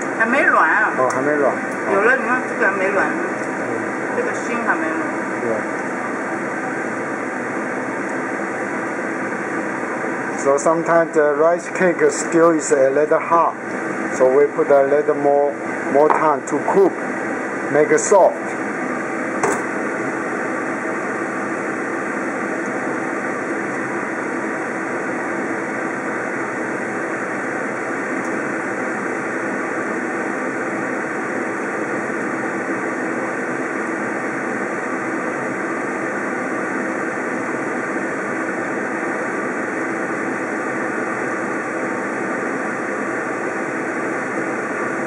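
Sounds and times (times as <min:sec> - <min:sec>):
kitchen fan running: 0:00.0 - 0:45.0.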